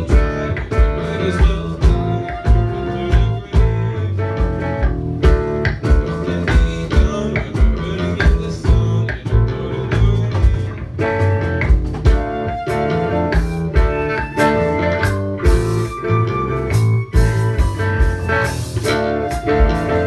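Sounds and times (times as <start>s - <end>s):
bass guitar: 0.0s - 20.0s
electric guitars: 0.0s - 20.0s
steady drum beat: 0.0s - 20.0s.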